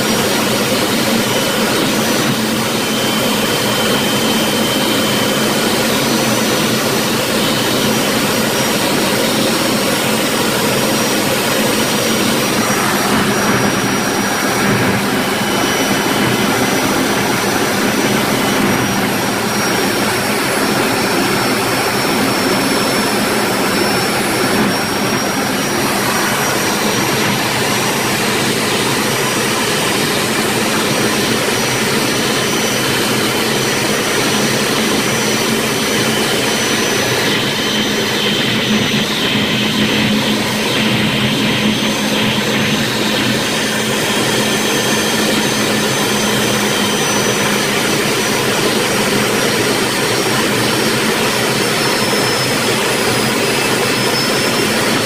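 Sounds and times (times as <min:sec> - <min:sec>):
jet engine running in flight: 0:00.0 - 0:55.0.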